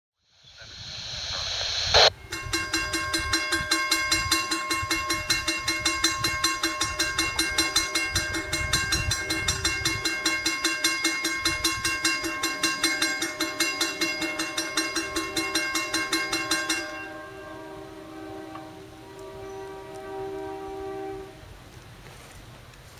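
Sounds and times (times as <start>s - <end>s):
faint steady tones: 0.2s - 21.9s
railroad crossing bell ringing: 2.1s - 21.3s.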